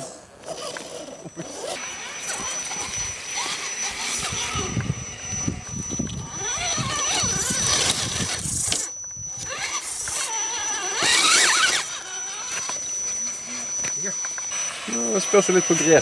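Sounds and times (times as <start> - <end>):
electric motor and gearbox whine: 0.0 - 16.0.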